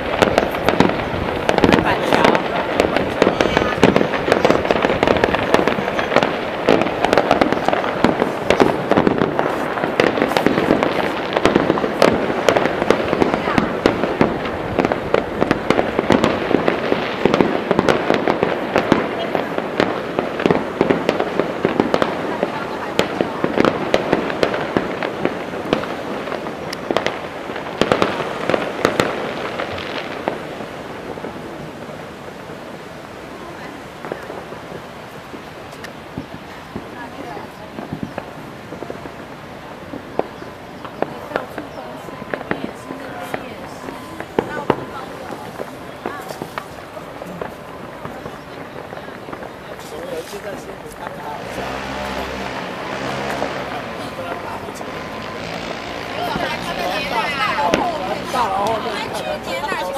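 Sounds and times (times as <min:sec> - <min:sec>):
fireworks crackling: 0:00.0 - 0:59.9
fireworks pops and bangs: 0:00.0 - 0:59.9.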